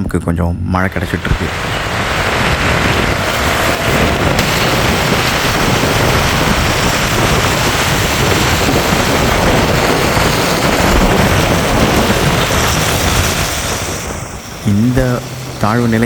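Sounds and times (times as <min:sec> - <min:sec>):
heavy rain: 0:00.9 - 0:16.0.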